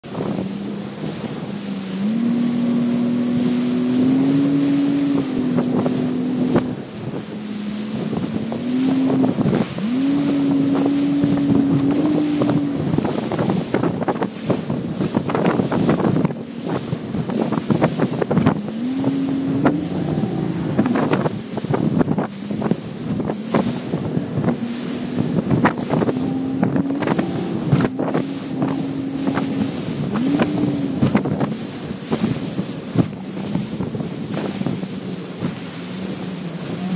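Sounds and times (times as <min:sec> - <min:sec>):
hull slapping waves: 0:00.0 - 0:36.9
outboard motor running: 0:00.0 - 0:36.9
wind buffeting microphone: 0:00.0 - 0:36.9.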